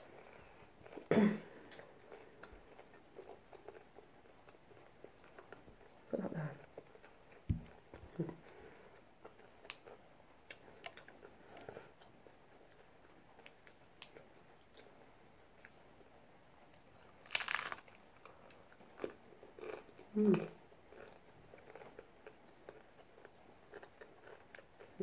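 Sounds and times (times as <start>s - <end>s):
chewing crunchy taco shell: 0.0s - 14.9s, 16.8s - 25.0s.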